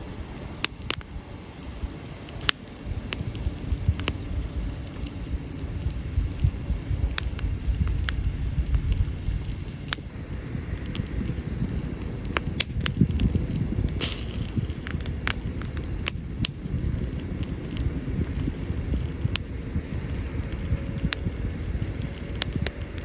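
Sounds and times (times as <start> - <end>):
steady low rumble: 0.0 - 23.0
wood fire crackling and popping: 0.0 - 23.0.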